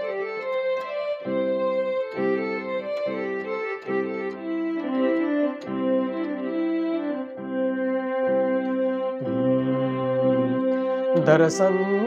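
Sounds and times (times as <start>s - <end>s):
electronic keyboard organ chords: 0.0s - 12.0s.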